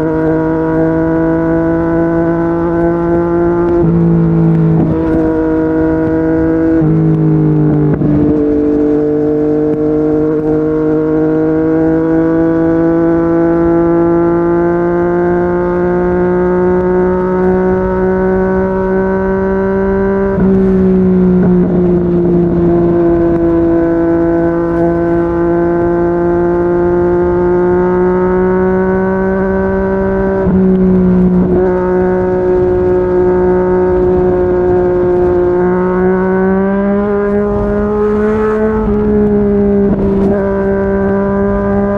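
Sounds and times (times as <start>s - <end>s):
motorcycle engine at speed: 0.0s - 41.9s.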